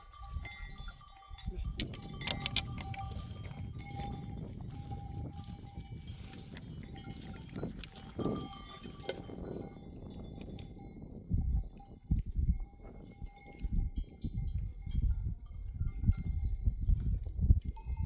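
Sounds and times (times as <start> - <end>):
sheep bells jangling: 0.0 - 18.0.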